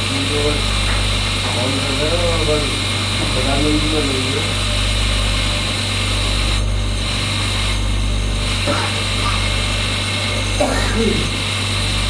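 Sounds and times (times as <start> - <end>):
grinding wheel hum and whine: 0.0 - 12.0.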